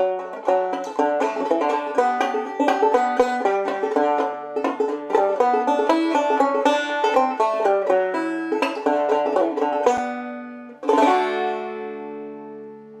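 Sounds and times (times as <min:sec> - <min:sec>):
banjo chord ringing: 0:00.0 - 0:13.0
banjo plucked notes: 0:00.0 - 0:13.0.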